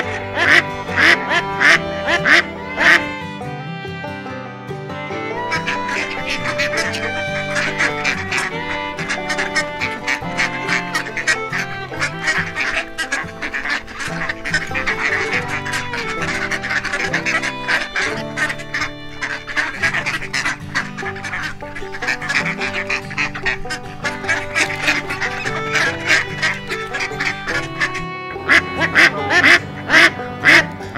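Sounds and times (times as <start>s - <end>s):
ducks quacking: 0.0s - 30.9s
music with held notes: 0.0s - 30.9s.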